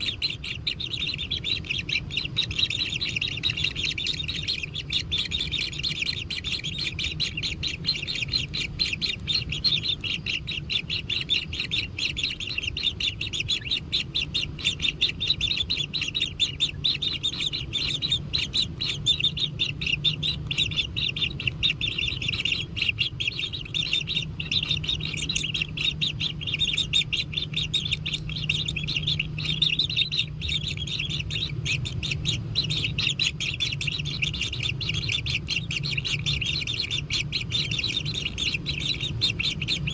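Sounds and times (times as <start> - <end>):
chicks begging calls chatter: 0.0 - 39.9
low steady hum: 0.0 - 39.9.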